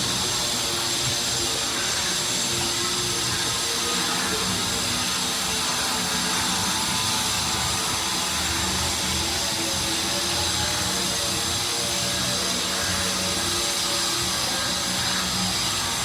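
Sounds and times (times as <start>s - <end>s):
even hiss: 0.0s - 16.0s.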